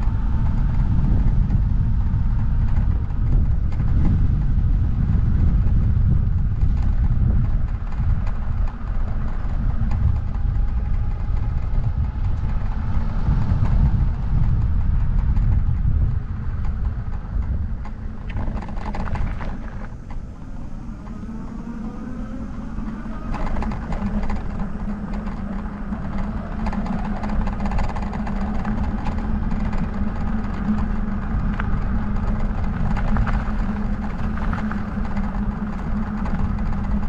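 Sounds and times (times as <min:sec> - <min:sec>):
bicycle rolling rumble: 0:00.0 - 0:37.0
faint rising whine: 0:00.0 - 0:37.0
small rattles and clicks: 0:00.0 - 0:37.0
wind buffeting microphone: 0:00.0 - 0:37.0.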